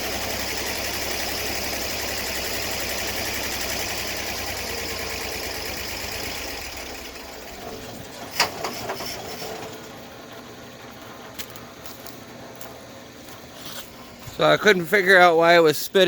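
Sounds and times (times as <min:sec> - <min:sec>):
small sawmill engine running: 0:00.0 - 0:15.8.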